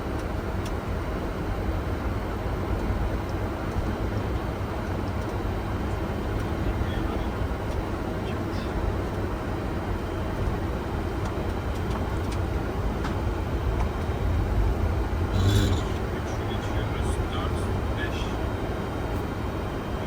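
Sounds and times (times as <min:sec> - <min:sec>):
airplane cockpit rumble: 0:00.0 - 0:20.0.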